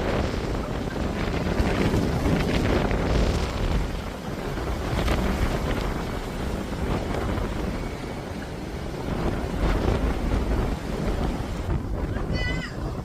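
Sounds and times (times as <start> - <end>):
gusty wind on microphone: 0.0 - 13.0.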